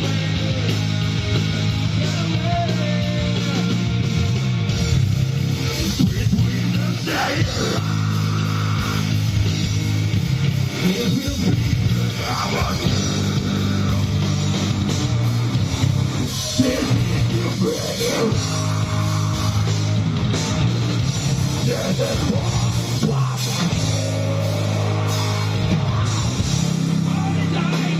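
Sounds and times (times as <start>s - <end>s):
distorted electric guitar chords: 0.0s - 27.9s
low steady bass: 0.0s - 27.9s.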